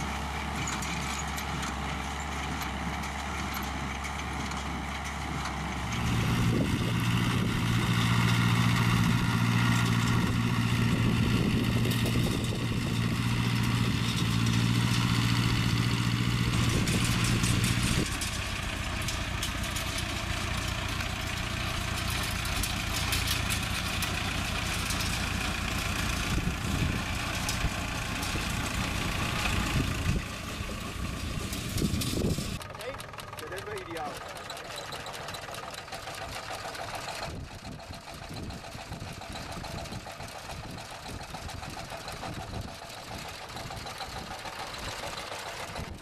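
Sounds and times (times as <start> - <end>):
quieter tractor engine running: 0.0 - 46.0
tractor engine running: 0.0 - 46.0.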